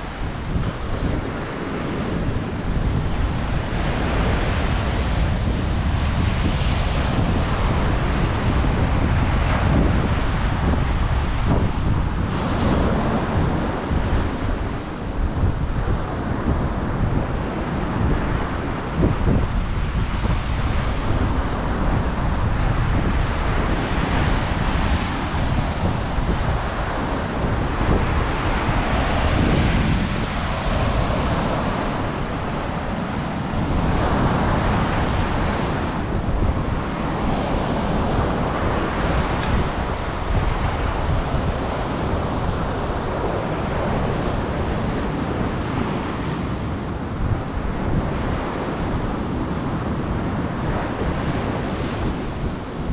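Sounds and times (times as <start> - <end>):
ocean surf washing onto beach: 0.0 - 52.9
wind buffeting microphone: 0.0 - 52.9.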